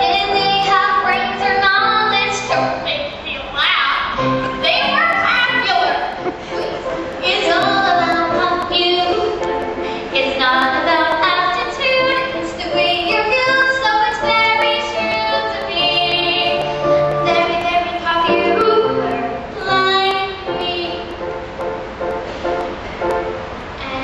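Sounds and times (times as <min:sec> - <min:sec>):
girl singing: 0:00.0 - 0:21.1, 0:23.8 - 0:24.0.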